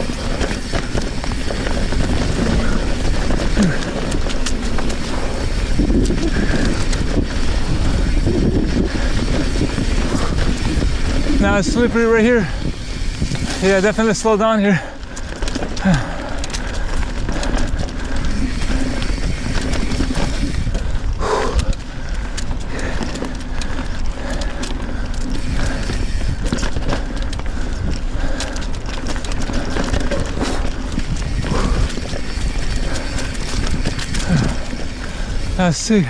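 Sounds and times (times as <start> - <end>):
wind rumble on microphone: 0.0 - 14.2, 15.0 - 36.0
bike rattling and clicking: 0.0 - 36.0
tyres rolling on sandy trail: 0.0 - 36.0.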